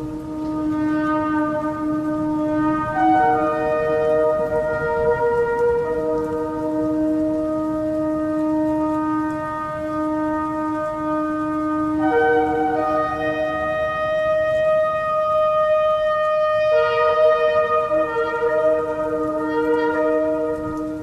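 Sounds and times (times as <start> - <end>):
faint low hiss: 0.0 - 21.0
shofar blasts: 0.0 - 21.0.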